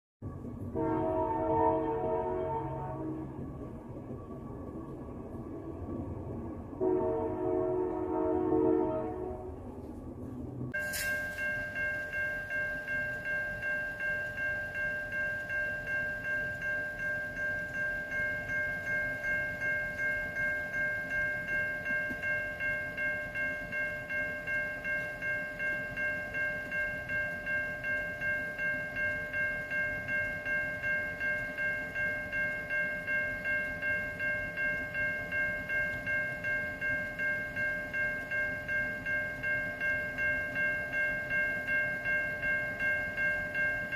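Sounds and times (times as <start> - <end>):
railroad crossing bell ringing: 0.7 - 4.1, 6.8 - 9.3, 10.7 - 43.9.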